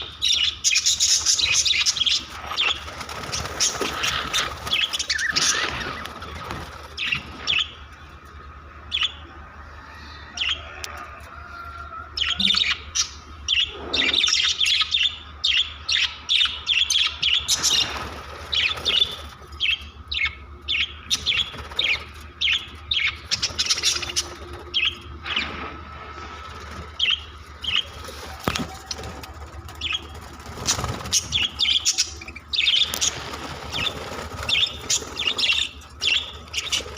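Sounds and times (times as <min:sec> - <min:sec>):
budgerigars chirping: 0:00.0 - 0:07.8, 0:11.9 - 0:25.6, 0:27.0 - 0:29.1, 0:29.7 - 0:36.9.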